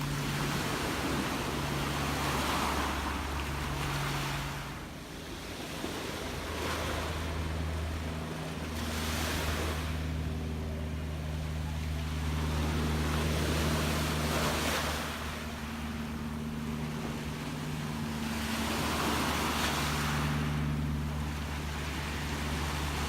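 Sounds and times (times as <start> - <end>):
sea waves washing in: 0.0 - 23.0
steady low hum: 0.0 - 23.0.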